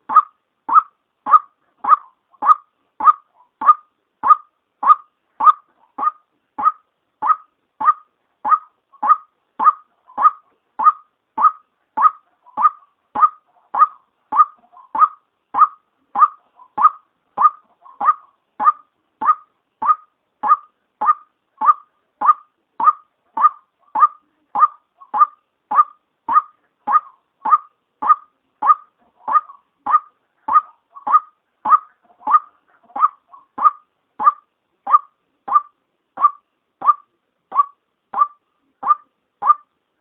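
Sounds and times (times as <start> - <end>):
waterhen calling: 0.0 - 39.7.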